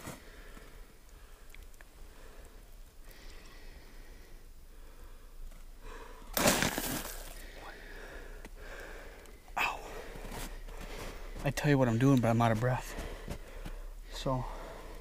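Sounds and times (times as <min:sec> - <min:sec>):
man breathing hard: 0:00.0 - 0:06.4, 0:07.2 - 0:11.4, 0:12.9 - 0:15.0.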